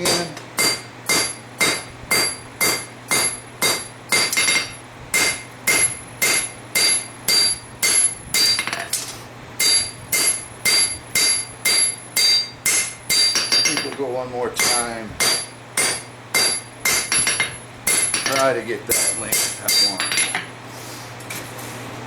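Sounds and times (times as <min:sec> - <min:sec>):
hammer ringing on anvil: 0:00.0 - 0:09.0, 0:09.6 - 0:14.0, 0:14.6 - 0:20.5.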